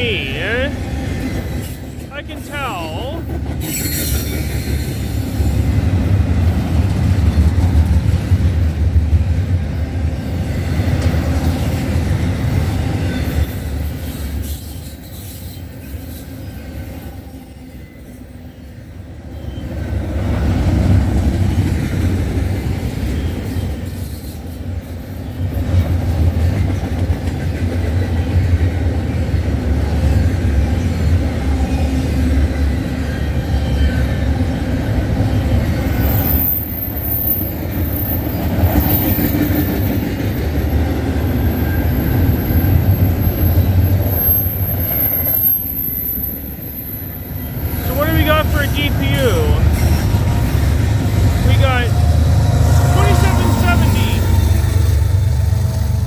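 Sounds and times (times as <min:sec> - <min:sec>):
freight train wheels rumbling on rail: 0:03.2 - 0:45.8, 0:46.4 - 0:56.0.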